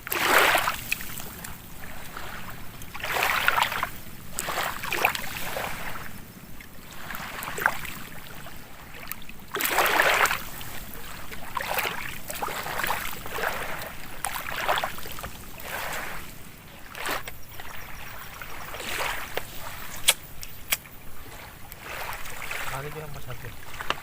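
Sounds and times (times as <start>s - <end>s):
water splashing in surges: 0.0s - 24.0s.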